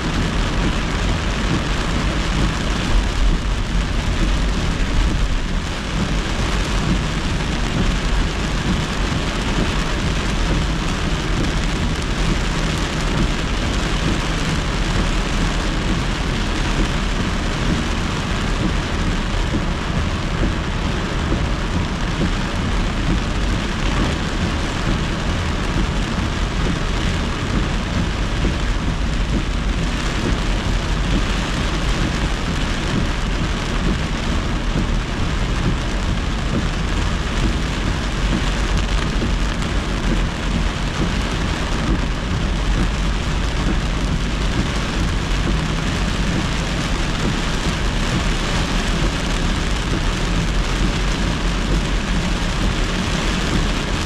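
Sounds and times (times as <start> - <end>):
deep low rumble: 0.0 - 54.0
heavy rain beating on a car: 0.0 - 54.0
tyres hissing on wet road: 0.0 - 54.0.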